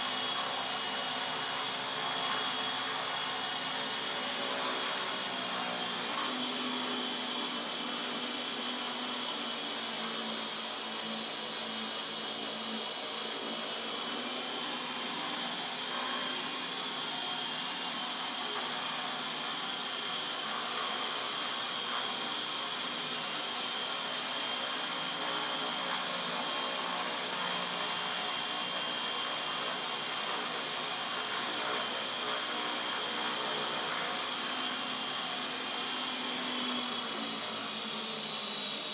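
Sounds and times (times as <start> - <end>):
electric motor whine: 0.0 - 38.9
rotor blades rushing: 0.0 - 38.9.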